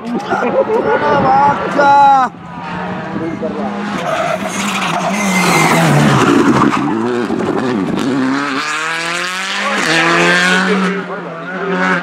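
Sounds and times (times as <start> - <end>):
rally car engine passing: 0.3 - 12.0.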